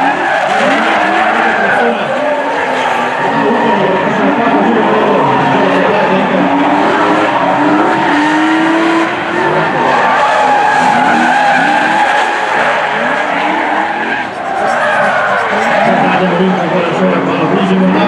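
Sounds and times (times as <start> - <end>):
tyres squealing: 0.0 - 16.3
car engines revving: 0.0 - 18.0.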